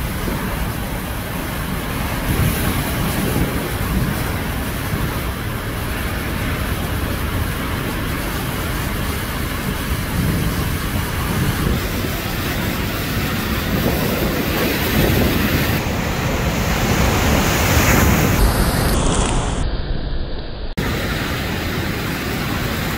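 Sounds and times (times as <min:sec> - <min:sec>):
sea surf crashing on rocks: 0:00.0 - 0:19.6, 0:20.8 - 0:22.9
wind rumbling on microphone: 0:00.0 - 0:22.9.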